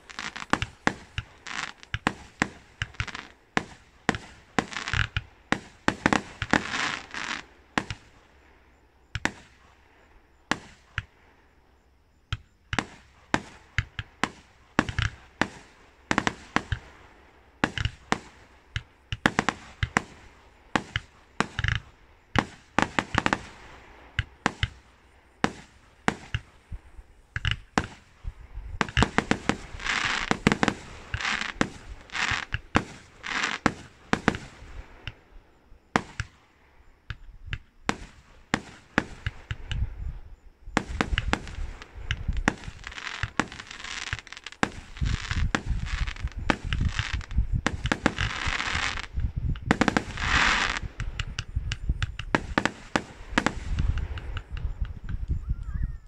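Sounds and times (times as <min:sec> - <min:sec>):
firework crackling: 0:00.0 - 0:08.6, 0:09.2 - 0:11.3, 0:12.7 - 0:55.4
firework bangs: 0:00.0 - 0:11.3, 0:12.3 - 0:55.4.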